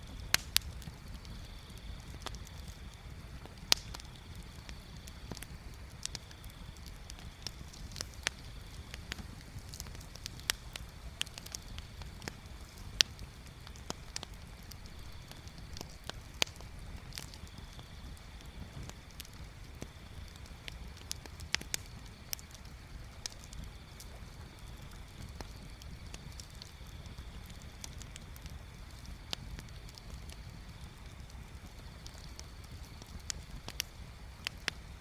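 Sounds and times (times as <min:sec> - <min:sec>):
wood bonfire crackling: 0:00.0 - 0:35.0.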